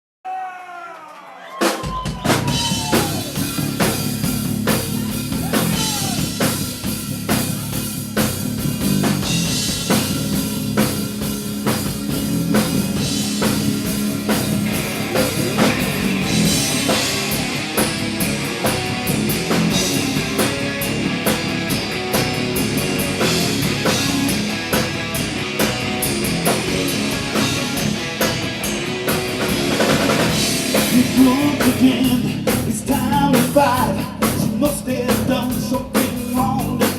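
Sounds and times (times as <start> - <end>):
drum kit: 1.5 - 36.9
rock band playing live: 1.7 - 36.9.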